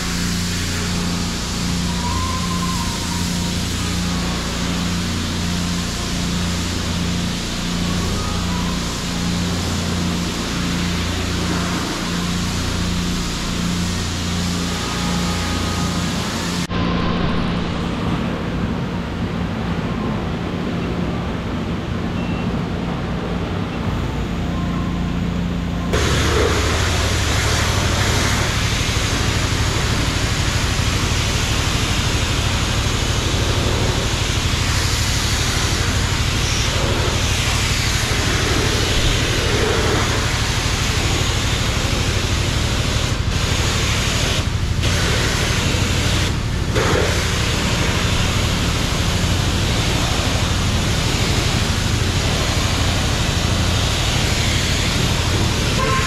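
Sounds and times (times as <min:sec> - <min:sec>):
pressure washer spray hissing: 0:00.0 - 0:16.7, 0:26.0 - 0:56.0
steady hum: 0:00.0 - 0:56.0.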